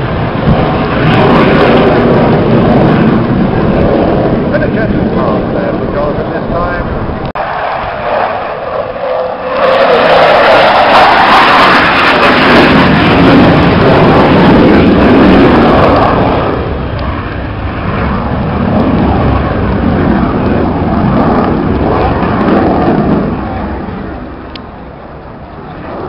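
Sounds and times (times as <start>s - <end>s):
jet engine roaring: 0.0s - 26.0s.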